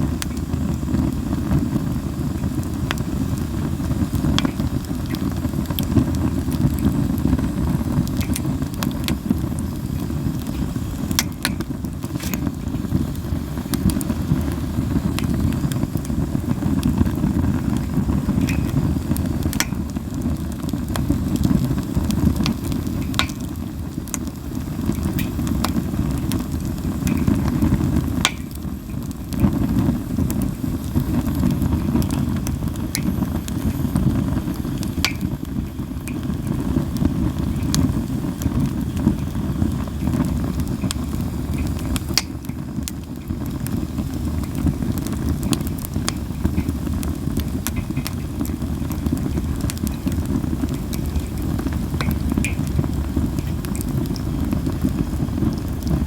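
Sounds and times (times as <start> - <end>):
campfire low rumble: 0.0 - 56.0
firewood crackles and pops: 0.0 - 56.0.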